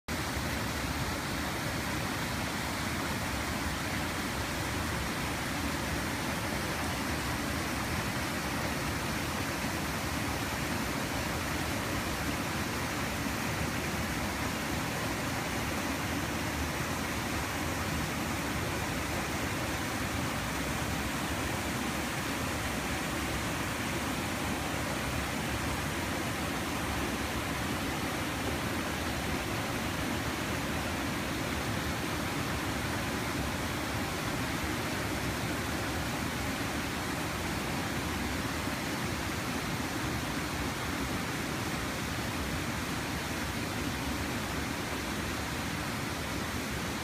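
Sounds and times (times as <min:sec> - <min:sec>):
stream water flowing: 0:00.1 - 0:47.0.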